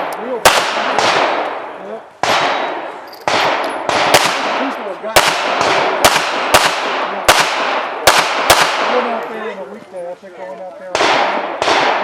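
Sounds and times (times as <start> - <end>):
pistol shots with echo: 0.0 - 9.2, 10.9 - 12.0.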